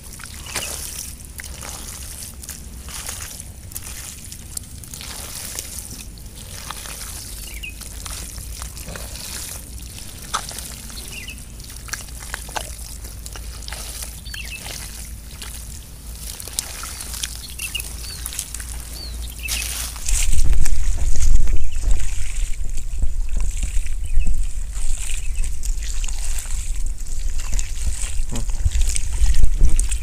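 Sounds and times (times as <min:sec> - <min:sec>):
hands squelching in wet mud: 0:00.0 - 0:30.0.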